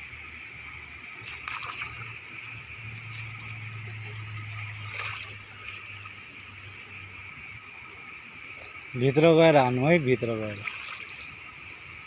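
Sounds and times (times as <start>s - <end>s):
light water splashes: 0.0s - 12.0s
steady low hum: 0.0s - 12.0s
stream water trickling: 0.0s - 12.0s.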